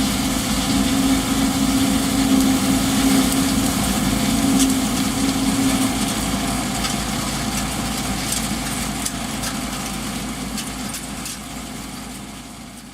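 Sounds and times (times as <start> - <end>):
strong steady hum: 0.0 - 11.1
combine harvester engine drone: 0.0 - 12.9
machinery ticks and rattles: 0.0 - 12.9.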